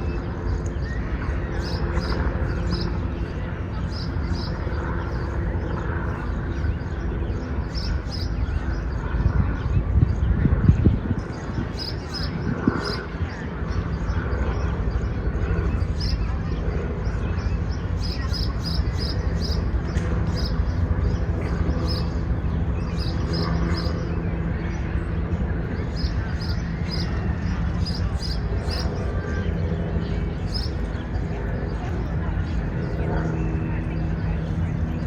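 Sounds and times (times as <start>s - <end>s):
distant voices: 0.0s - 35.0s
low traffic rumble: 0.0s - 35.0s.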